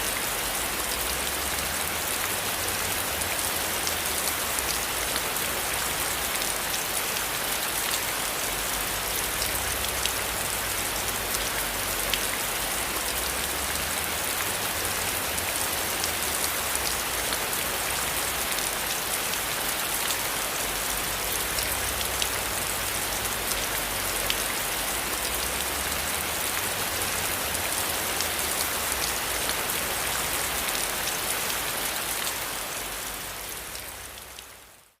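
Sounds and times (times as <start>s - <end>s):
rain pattering: 0.0s - 35.0s.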